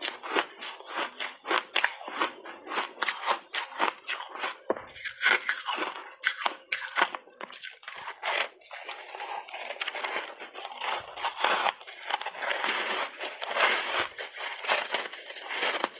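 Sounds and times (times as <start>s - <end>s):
ice being crunched: 3.0s - 15.9s.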